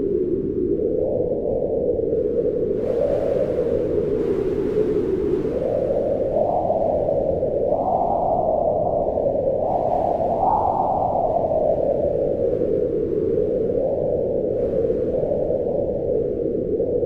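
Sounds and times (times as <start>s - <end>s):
strong wind howling: 0.0s - 17.0s.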